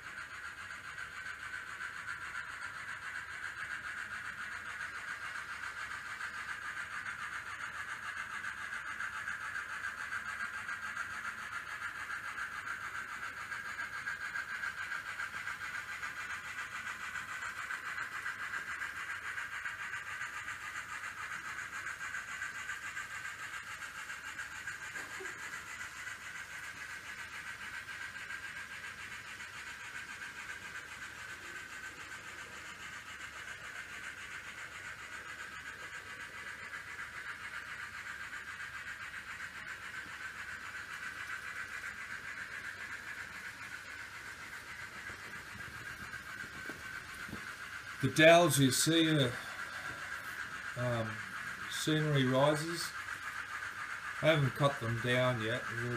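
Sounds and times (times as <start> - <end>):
model train motors whining: 0.0 - 55.9
wheel noise on rails: 0.0 - 55.9.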